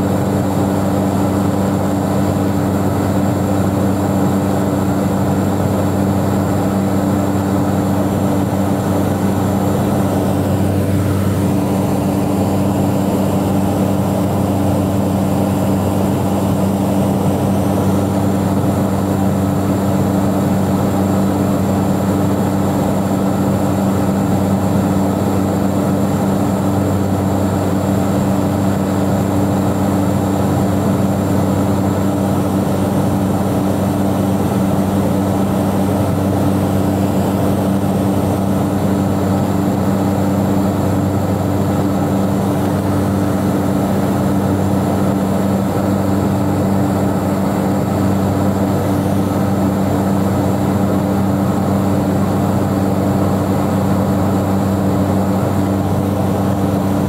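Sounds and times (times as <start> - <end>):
airplane engine drone: 0.0 - 57.0.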